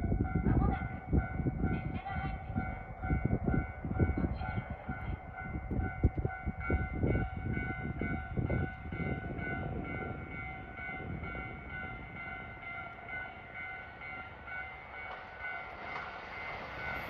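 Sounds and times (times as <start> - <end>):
train wheels rumbling and knocking: 0.0 - 17.0.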